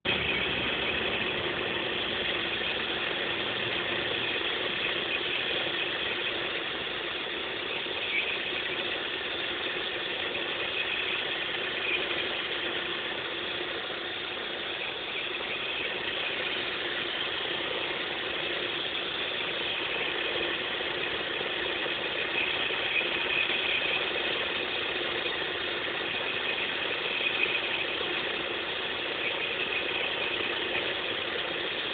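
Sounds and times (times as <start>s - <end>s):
car engine idling: 0.0s - 31.9s
sharp ticks from engine: 0.1s - 31.9s.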